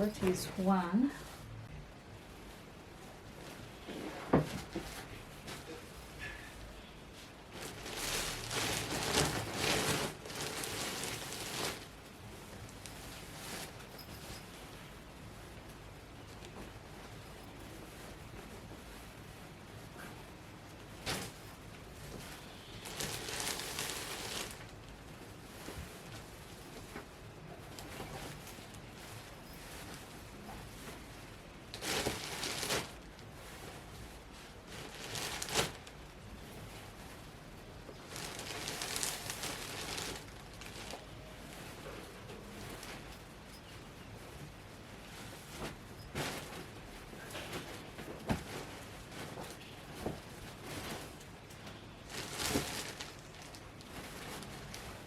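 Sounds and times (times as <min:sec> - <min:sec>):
fabric pillow rustling: 0:00.0 - 0:55.0.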